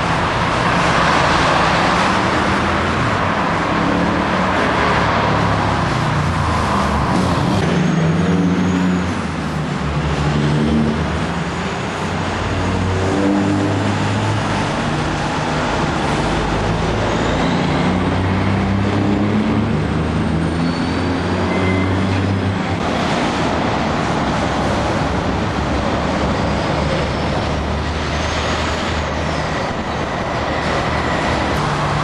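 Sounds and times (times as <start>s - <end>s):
road traffic passing: 0.0s - 32.0s
truck engines droning: 0.0s - 32.0s.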